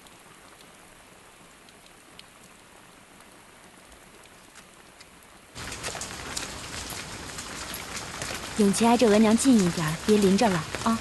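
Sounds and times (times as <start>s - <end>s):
rain falling: 0.0s - 11.0s
sharp raindrops hitting: 0.0s - 11.0s.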